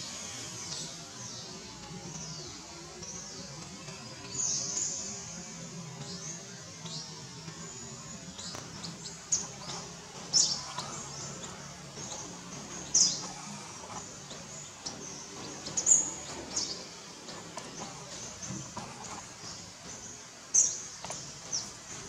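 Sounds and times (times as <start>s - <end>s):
outdoor background hum: 0.0s - 22.0s.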